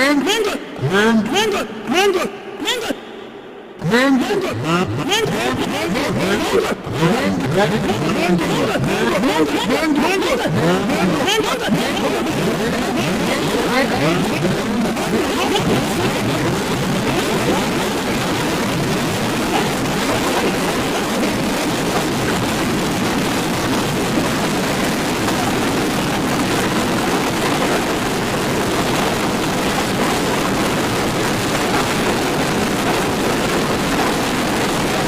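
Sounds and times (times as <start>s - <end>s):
loud rushing noise: 1.3s - 35.0s.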